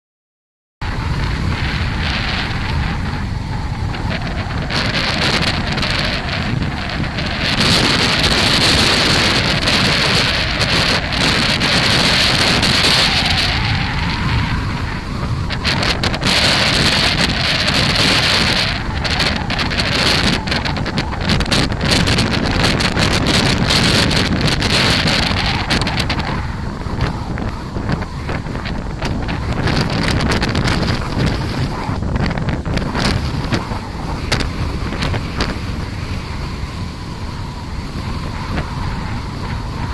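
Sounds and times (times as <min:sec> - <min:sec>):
gusty wind buffeting microphone: 0:00.8 - 0:39.9.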